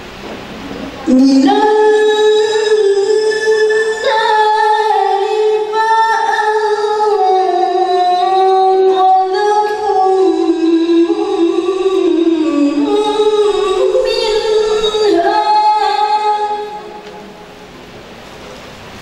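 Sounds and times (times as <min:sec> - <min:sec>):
woman reciting melodically: 0:00.9 - 0:17.6.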